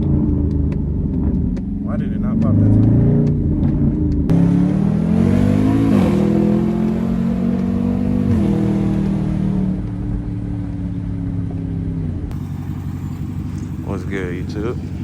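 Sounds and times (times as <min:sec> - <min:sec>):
supercharged engine accelerating: 0:00.0 - 0:15.0.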